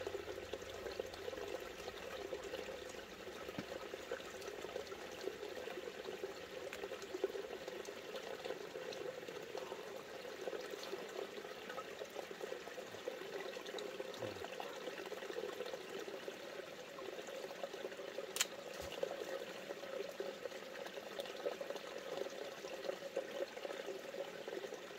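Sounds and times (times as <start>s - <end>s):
creek water running: 0.0s - 24.9s.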